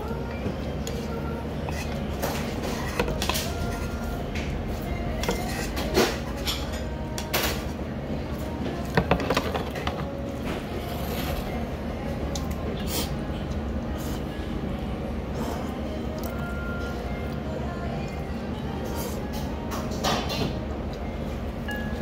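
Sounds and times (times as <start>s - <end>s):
restaurant hum: 0.0s - 22.0s.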